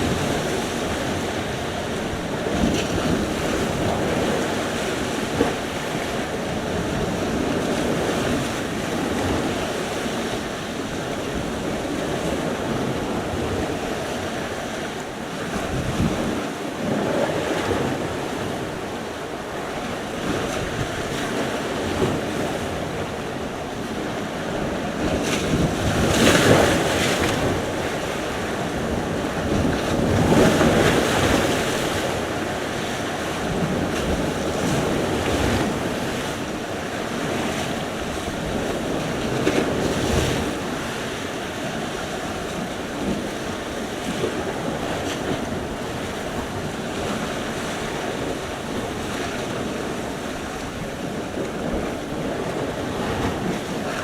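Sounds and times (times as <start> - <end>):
waves washing in: 0.0 - 54.0
wind buffeting microphone: 0.0 - 54.0.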